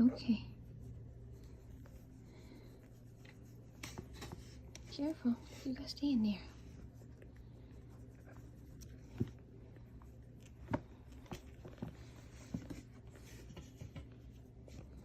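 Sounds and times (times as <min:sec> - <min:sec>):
kittens scratching and rustling: 0:00.0 - 0:15.0.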